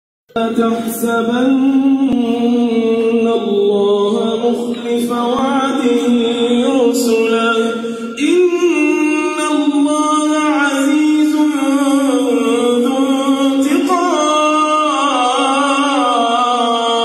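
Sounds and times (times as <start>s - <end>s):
man chanting through microphone: 0.3s - 17.0s.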